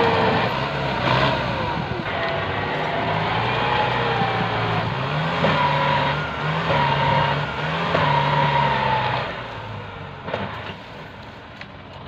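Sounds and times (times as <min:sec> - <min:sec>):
wavering engine whine: 0:00.0 - 0:11.2
tractor diesel engine droning: 0:00.0 - 0:12.0.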